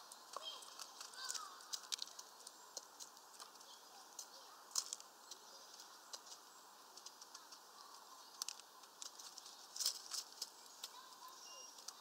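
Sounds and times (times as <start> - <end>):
birds pecking at feeder: 0.0 - 12.0.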